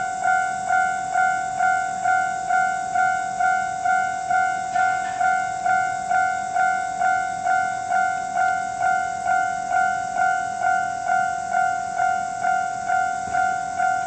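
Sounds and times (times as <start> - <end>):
level crossing electronic bell: 0.0 - 14.0.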